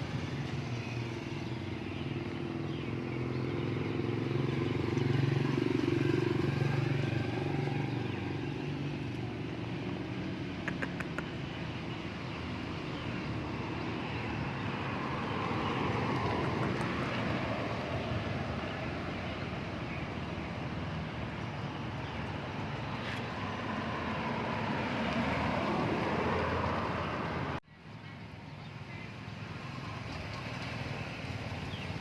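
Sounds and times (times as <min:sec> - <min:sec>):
vehicle running noise: 0:00.0 - 0:32.0.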